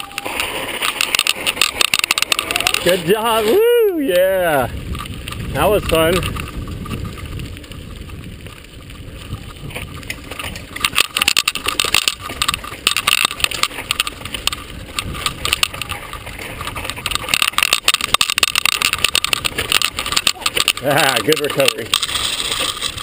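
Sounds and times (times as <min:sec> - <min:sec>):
bike frame rattling: 0:00.0 - 0:23.0
tyre noise on dirt: 0:00.0 - 0:23.0.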